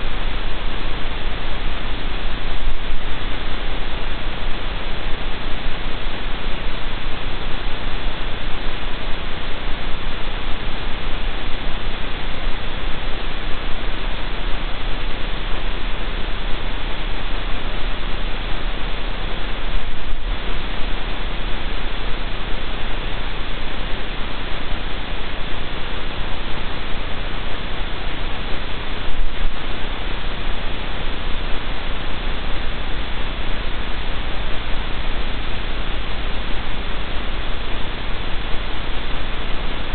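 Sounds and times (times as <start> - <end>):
low hum: 0.0 - 39.9
static hiss: 0.0 - 39.9.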